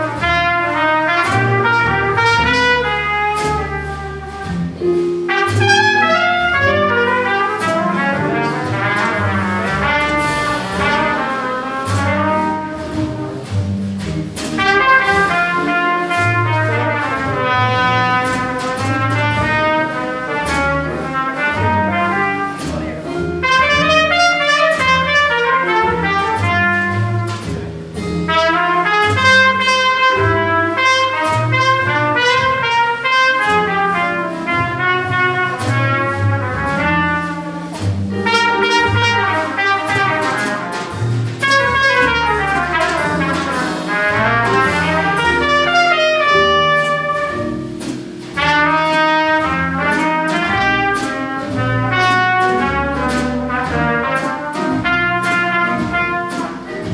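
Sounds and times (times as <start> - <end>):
trumpet solo: 0.0 - 13.6, 14.4 - 27.6, 28.2 - 56.9
drums with cymbal strokes: 0.0 - 56.9
upright bass: 0.0 - 56.9.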